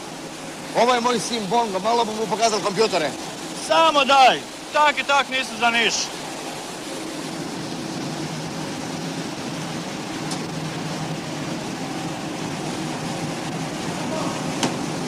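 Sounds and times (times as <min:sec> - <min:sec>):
machinery hum and hiss: 0:00.0 - 0:15.0.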